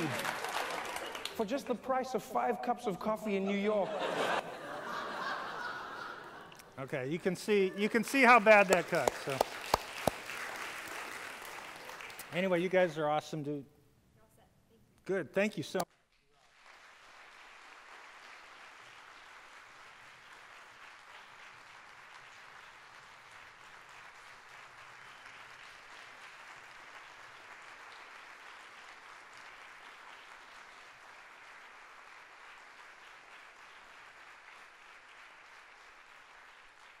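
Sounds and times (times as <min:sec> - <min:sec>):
faint audience applause: 0:00.0 - 0:13.2, 0:15.5 - 0:37.0.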